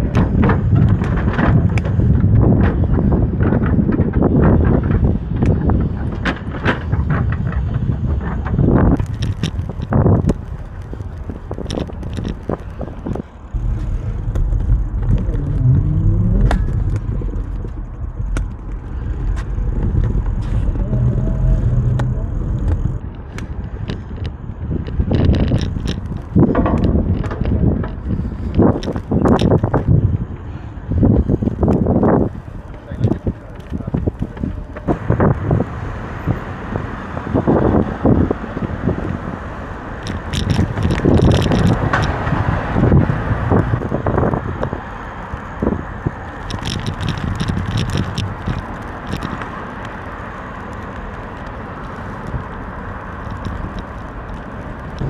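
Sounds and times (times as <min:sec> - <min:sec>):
bike rattles and knocks: 0:00.0 - 0:55.0
tyre and wind rumble: 0:00.0 - 0:55.0.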